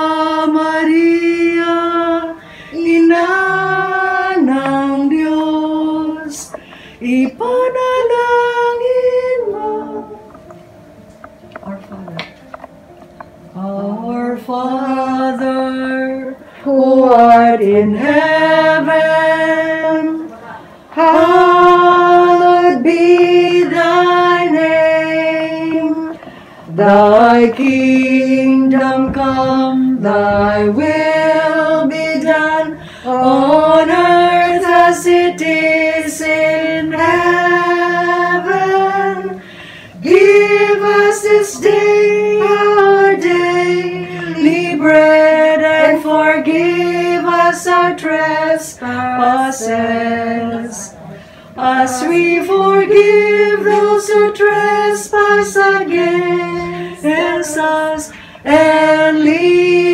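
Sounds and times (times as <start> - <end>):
group singing a hymn unaccompanied: 0.0 - 10.7, 13.5 - 59.9.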